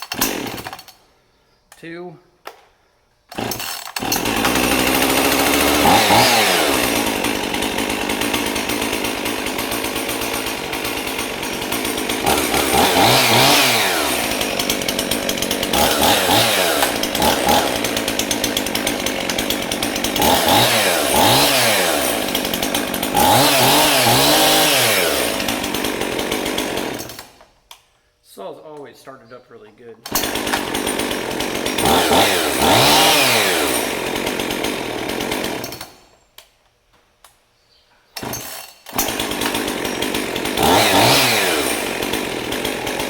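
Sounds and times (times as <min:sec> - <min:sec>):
chainsaw idling and revving: 0:00.0 - 0:00.9, 0:03.3 - 0:27.5, 0:30.0 - 0:36.1, 0:38.2 - 0:43.0.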